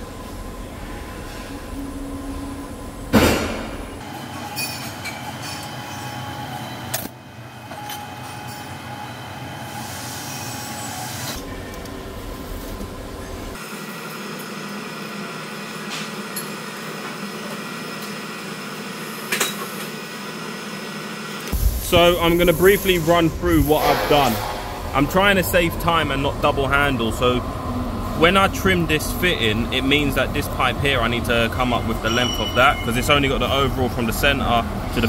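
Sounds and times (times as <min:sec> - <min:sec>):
workshop mechanical hum: 0:00.0 - 0:35.0.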